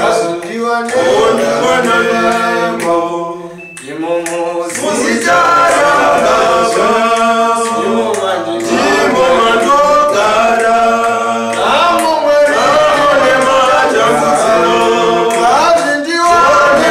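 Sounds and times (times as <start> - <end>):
male voices singing in harmony: 0.0 - 16.9.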